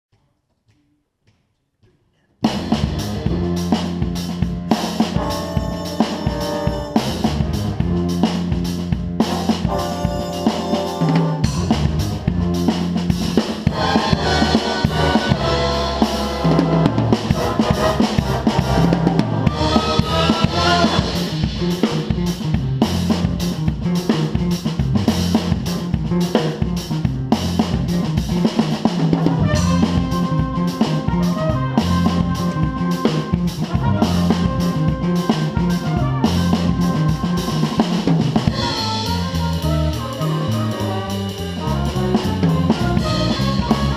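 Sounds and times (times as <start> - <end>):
big band jazz: 2.4 - 43.9
drum kit: 2.4 - 43.9.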